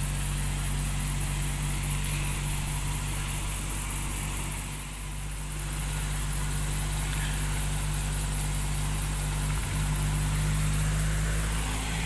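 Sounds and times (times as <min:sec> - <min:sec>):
helicopter engine running: 0:00.0 - 0:09.8, 0:10.5 - 0:12.0.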